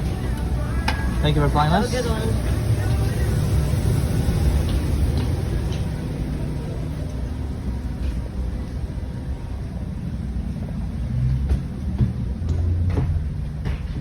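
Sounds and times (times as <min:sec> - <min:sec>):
airport machinery rumble: 0:00.0 - 0:14.0.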